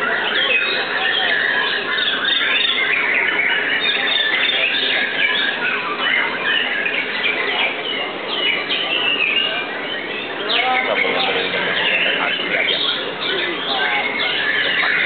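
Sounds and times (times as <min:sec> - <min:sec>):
songbirds whistling and chattering: 0:00.0 - 0:15.0.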